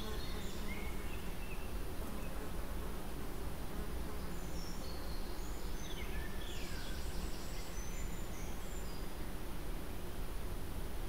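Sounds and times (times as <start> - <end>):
steady hiss and low rumble: 0.0 - 11.0.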